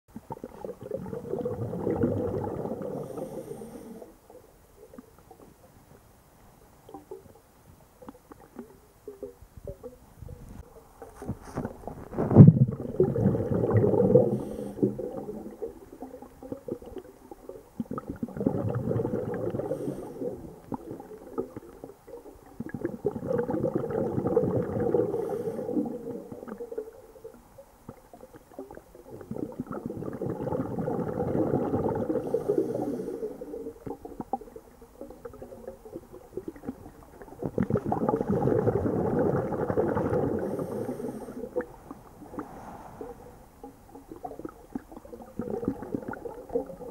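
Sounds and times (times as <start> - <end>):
air bubbles gurgling underwater: 0.1 - 5.5, 8.0 - 46.9.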